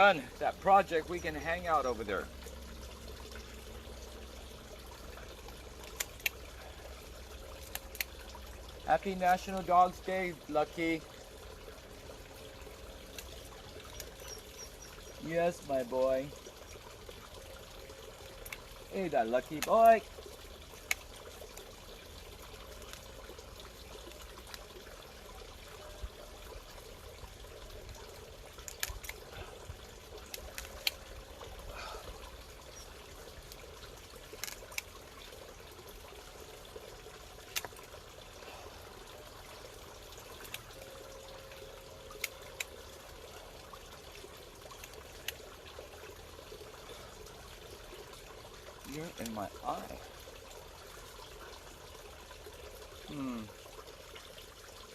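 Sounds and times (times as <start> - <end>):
bubbling water trickle: 0.0 - 54.9.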